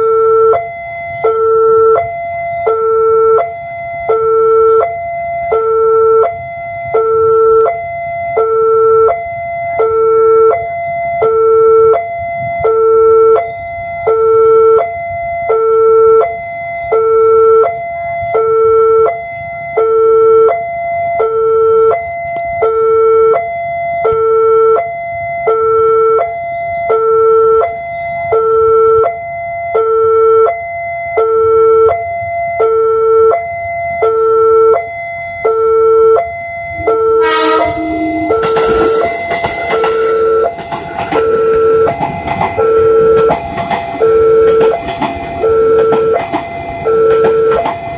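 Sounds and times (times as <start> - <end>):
two-note crossing warning tone: 0.0 - 43.4.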